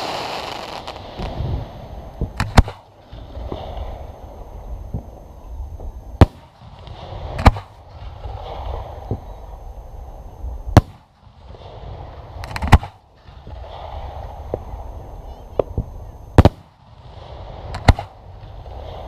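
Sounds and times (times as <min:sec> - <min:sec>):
fireworks bangs: 0:00.0 - 0:05.2, 0:06.2 - 0:09.6, 0:10.7 - 0:19.0
fireworks crackles: 0:00.0 - 0:19.0.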